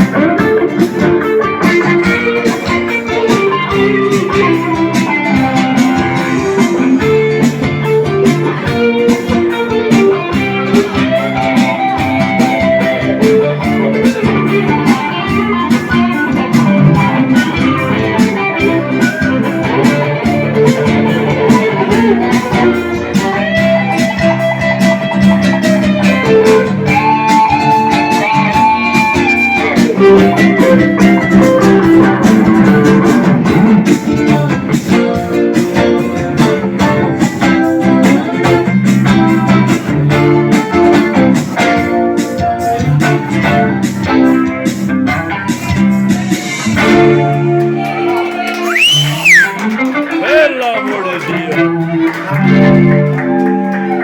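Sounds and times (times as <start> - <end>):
plucked guitar music: 0.0 - 54.0.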